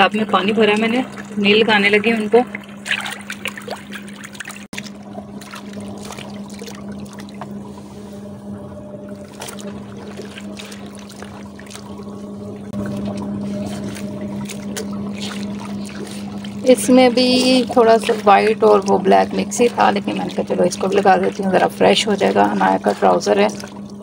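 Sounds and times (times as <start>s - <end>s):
spin dryer motor humming: 0.0s - 24.0s
water sloshing in a tub: 0.0s - 24.0s.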